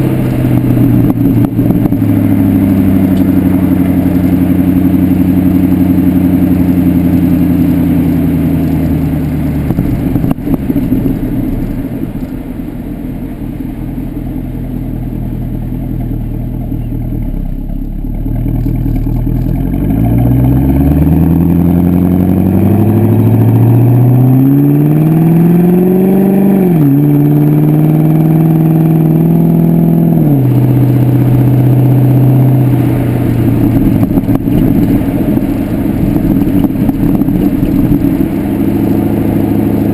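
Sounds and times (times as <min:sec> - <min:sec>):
car engine exhaust while driving: 0:00.0 - 0:39.9.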